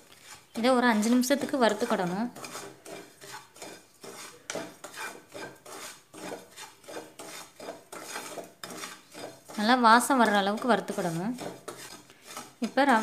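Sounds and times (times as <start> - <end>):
spatula scraping semolina in pan: 0.0 - 13.0.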